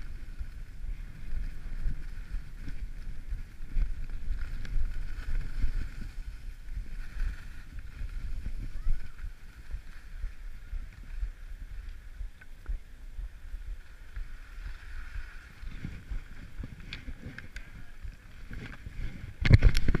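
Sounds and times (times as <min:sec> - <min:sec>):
skis sliding over snow: 0:00.0 - 0:20.0
wind rumble on microphone: 0:00.0 - 0:20.0.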